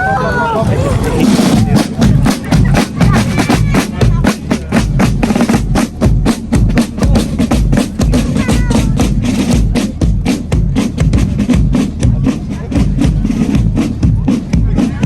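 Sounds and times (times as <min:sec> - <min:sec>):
bass drum beats: 0:00.0 - 0:15.0
snare drum rolls: 0:00.9 - 0:15.0.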